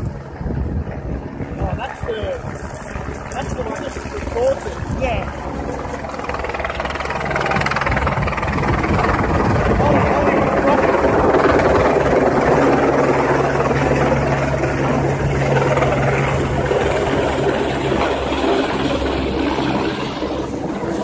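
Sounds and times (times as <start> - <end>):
helicopter flying overhead: 0.0 - 21.0.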